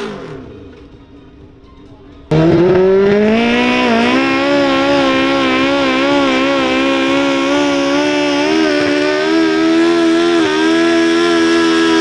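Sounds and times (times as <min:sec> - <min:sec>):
tractor engine at high revs: 0:00.0 - 0:00.9, 0:02.3 - 0:12.0.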